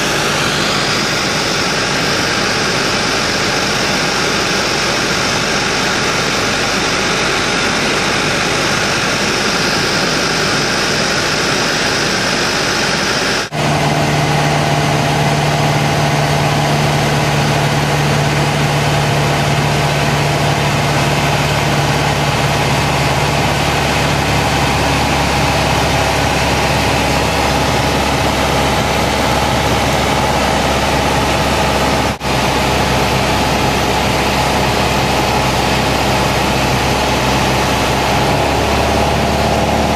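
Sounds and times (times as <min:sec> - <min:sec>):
jet engines and airflow rushing: 0:00.0 - 0:39.9
low cabin hum: 0:05.6 - 0:39.9.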